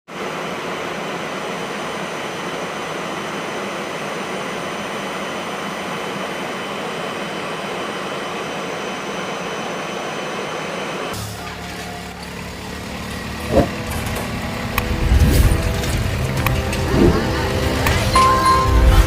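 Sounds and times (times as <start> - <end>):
jet engines running: 0.1 - 19.0
high whining tones: 0.8 - 19.0.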